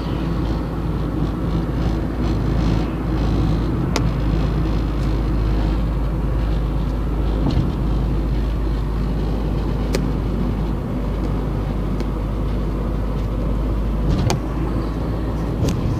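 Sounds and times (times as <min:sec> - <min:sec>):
car engine and road rumble: 0:00.0 - 0:15.9.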